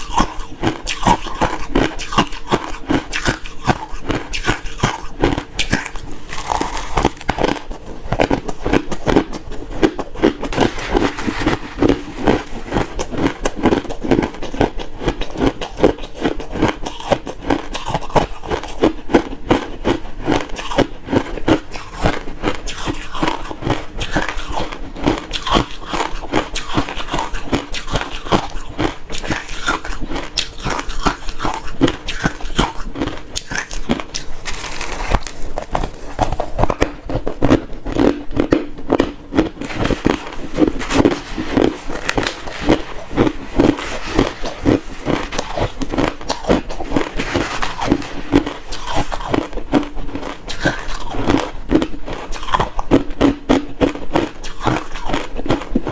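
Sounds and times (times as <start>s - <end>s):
crushed ice being chewed: 0.0s - 55.9s.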